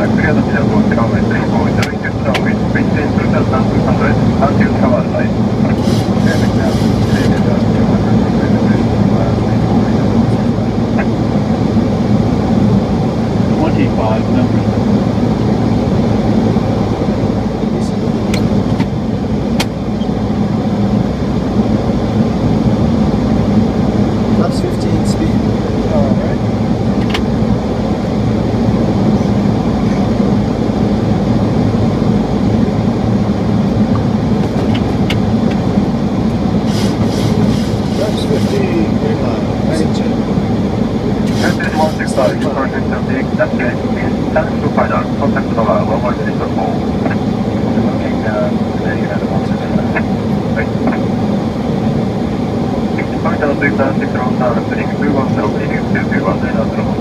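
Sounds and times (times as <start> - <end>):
airflow rush: 0.0 - 57.0
jet engine noise: 0.0 - 57.0
low hum: 0.0 - 57.0.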